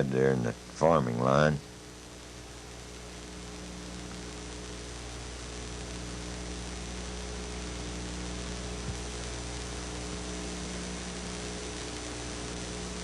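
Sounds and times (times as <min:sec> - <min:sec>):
electrical mains hum: 0:00.0 - 0:13.0
recording hiss: 0:00.0 - 0:13.0.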